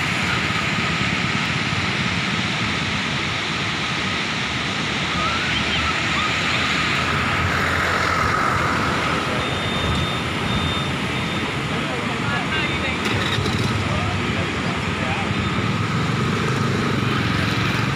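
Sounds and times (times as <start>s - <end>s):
floodwater rushing through dam gates: 0.0s - 17.9s.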